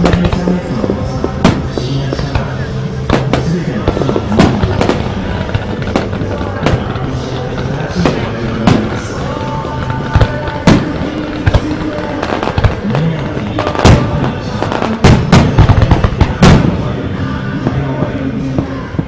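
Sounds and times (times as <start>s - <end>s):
firework shells bursting: 0.0s - 18.2s
crowd voices: 0.0s - 19.0s
music: 0.0s - 19.0s.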